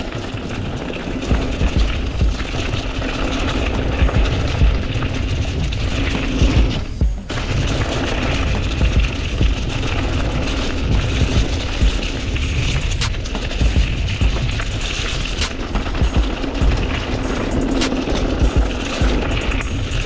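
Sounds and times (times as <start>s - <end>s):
bike tyres rumbling over dirt: 0.0s - 20.0s
wind buffeting microphone: 0.0s - 20.0s.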